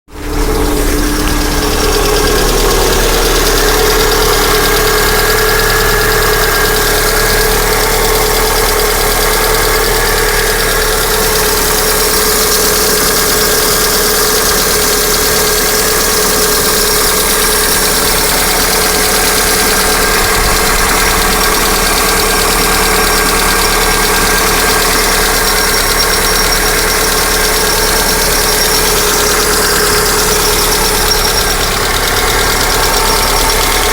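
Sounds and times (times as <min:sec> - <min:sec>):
car engine idling: 0:00.1 - 0:33.9
fast ticking knock from engine: 0:00.5 - 0:33.9.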